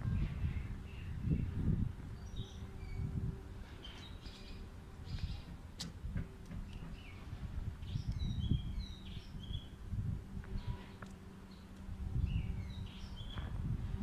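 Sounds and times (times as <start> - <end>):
small birds chirping: 0.0 - 5.9, 6.5 - 9.8, 10.4 - 13.7
uneven low rumbling: 0.0 - 14.0.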